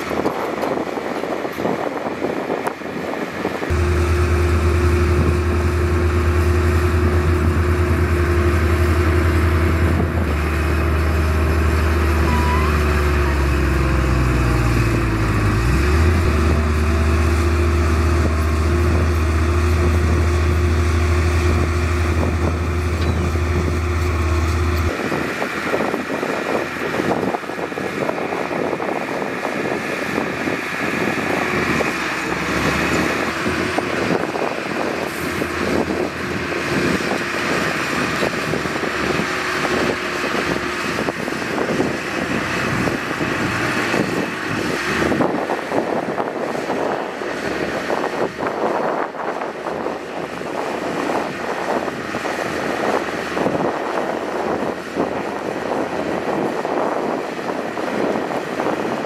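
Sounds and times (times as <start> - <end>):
engine running with deep hum: 0.0 - 59.0.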